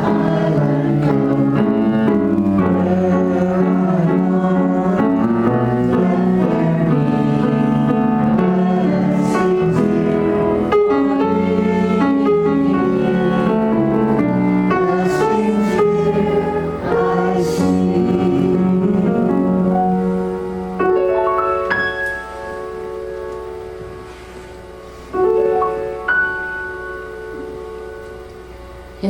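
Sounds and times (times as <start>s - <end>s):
slow piano meditation music: 0.0s - 29.0s.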